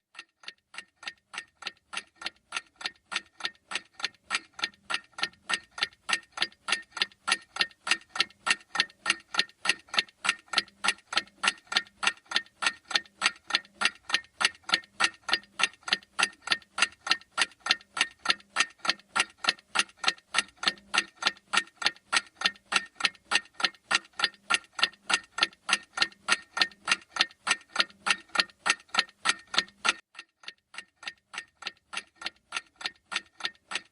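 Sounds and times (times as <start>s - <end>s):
clock ticking: 0.0s - 33.9s.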